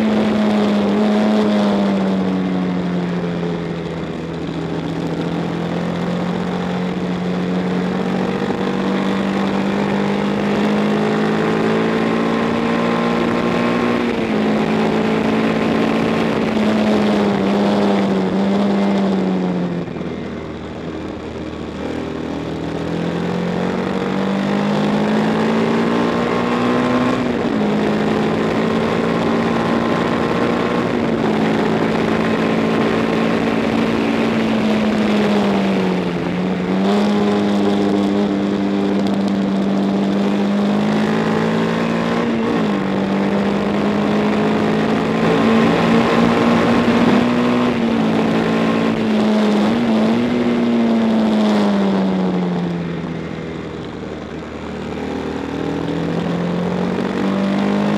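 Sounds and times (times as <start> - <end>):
racing motorcycle engine at high revs: 0.0 - 57.9.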